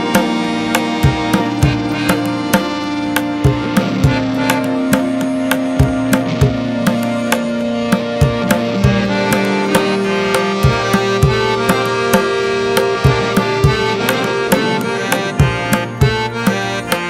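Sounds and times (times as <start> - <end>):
hand drum beat: 0.0 - 17.0
sustained held notes: 0.0 - 17.0.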